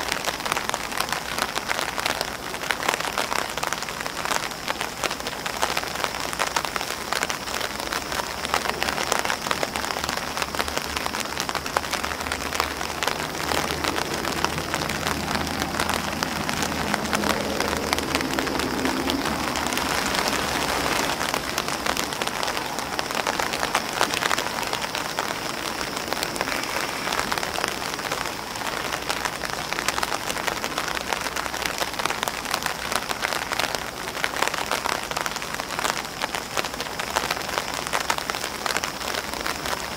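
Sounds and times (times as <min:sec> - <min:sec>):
rain hissing: 0:00.0 - 0:39.9
raindrops tapping on umbrella: 0:00.0 - 0:39.9.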